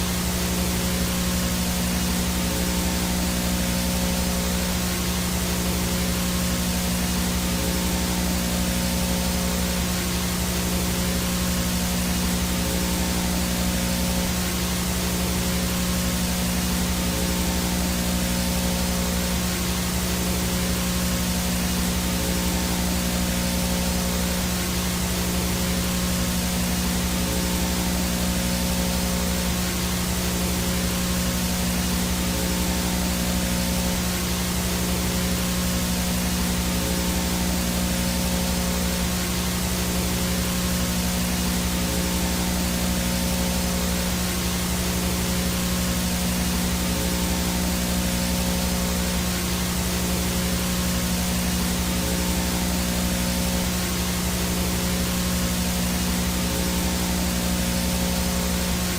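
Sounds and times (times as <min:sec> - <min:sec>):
faint high whine: 0:00.0 - 0:58.9
low buzzing hum: 0:00.0 - 0:58.9
static hiss: 0:00.0 - 0:58.9.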